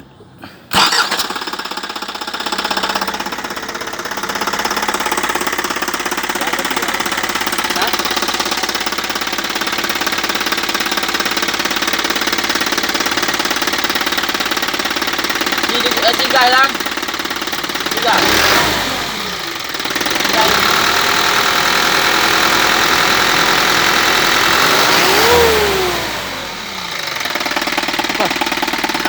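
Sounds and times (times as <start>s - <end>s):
diesel truck engine starting: 0.0s - 29.0s
rattling diesel engine running: 0.7s - 29.0s.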